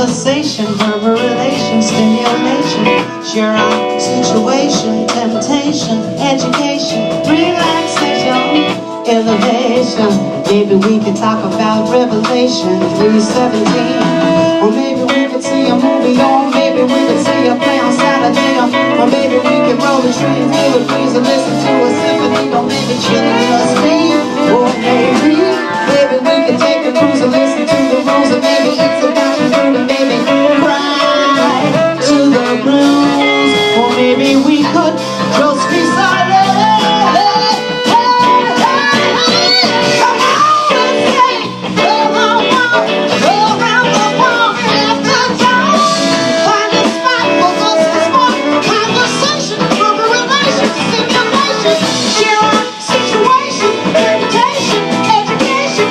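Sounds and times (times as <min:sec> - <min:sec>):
live band playing: 0:00.0 - 0:55.9
sliding lead melody: 0:00.0 - 0:55.9.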